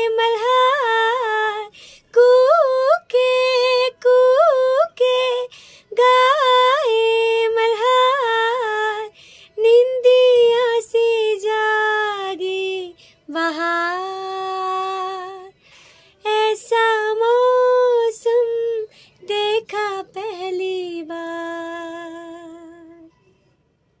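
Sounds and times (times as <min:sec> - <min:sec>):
woman singing unaccompanied: 0:00.0 - 0:15.6, 0:16.2 - 0:23.1.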